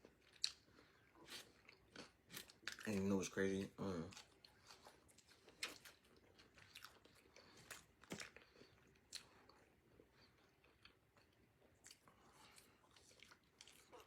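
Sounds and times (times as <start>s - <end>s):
person chewing food: 0.0s - 3.0s, 4.0s - 14.0s.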